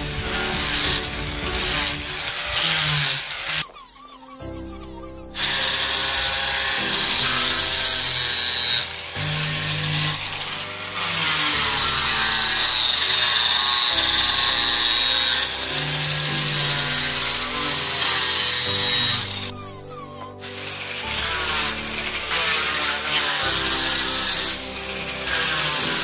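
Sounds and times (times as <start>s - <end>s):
angle grinder motor whine: 0.0s - 4.1s, 5.4s - 19.5s, 20.3s - 26.0s
sandpaper rasping on wood: 0.0s - 26.0s.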